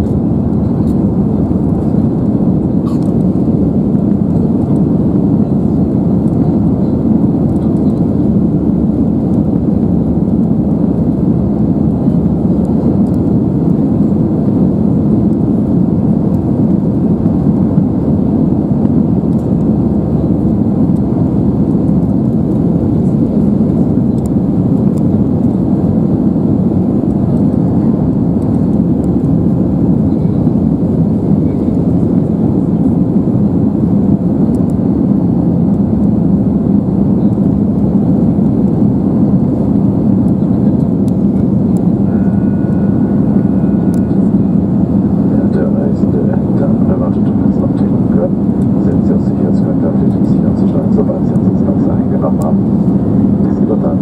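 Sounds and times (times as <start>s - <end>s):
jet engine cabin roar: 0.0s - 54.0s
rushing airflow: 0.0s - 54.0s.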